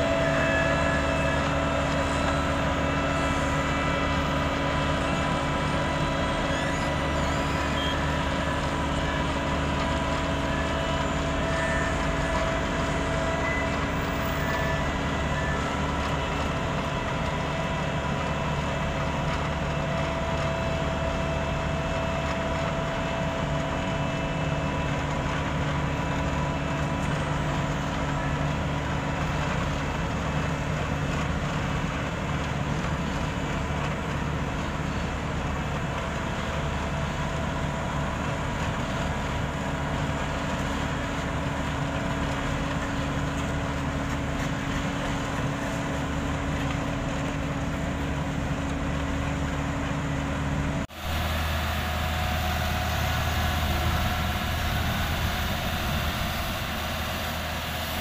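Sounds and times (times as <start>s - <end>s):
diesel engine humming: 0.0s - 58.0s
road roller engine running: 0.0s - 58.0s.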